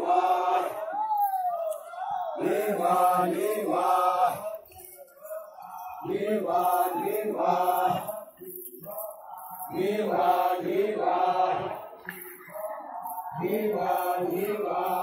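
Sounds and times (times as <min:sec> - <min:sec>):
group chanting in unison: 0:00.0 - 0:15.0.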